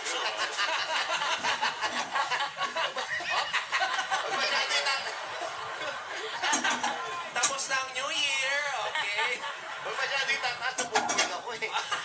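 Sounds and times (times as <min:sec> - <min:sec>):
people laughing: 0:00.0 - 0:07.4, 0:08.7 - 0:12.0.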